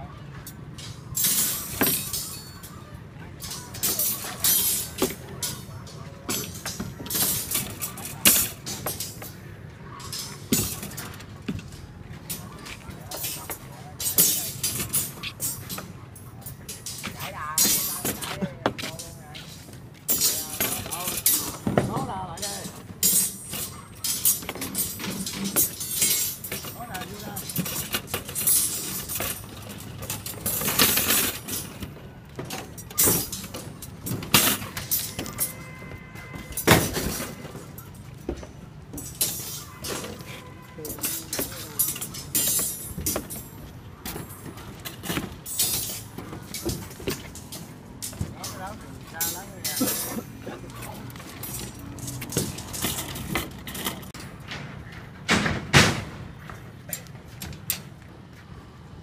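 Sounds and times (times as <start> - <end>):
steel bars clanking and scraping: 0.2 - 58.0.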